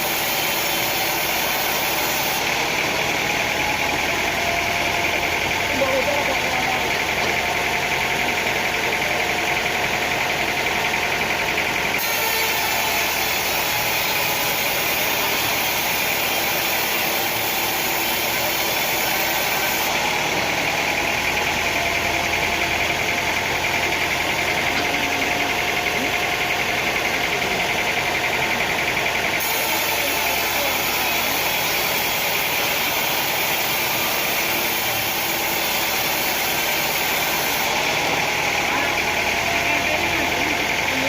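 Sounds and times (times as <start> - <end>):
sawmill machinery drone: 0.0 - 41.0.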